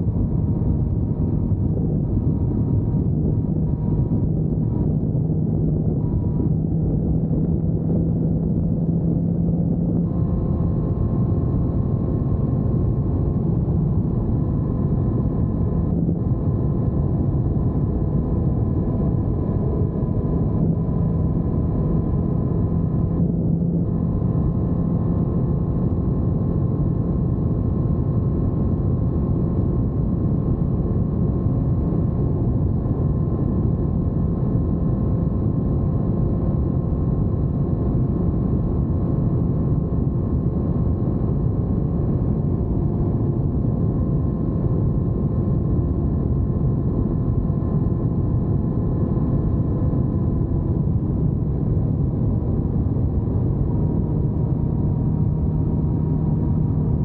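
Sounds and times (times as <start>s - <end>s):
motorcycle engine and wind noise: 0.0s - 57.0s.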